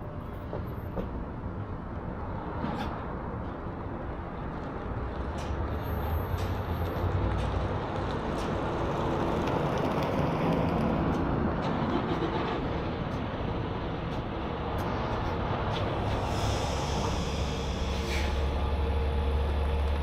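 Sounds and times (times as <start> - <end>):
truck road and engine noise: 0.0 - 20.0.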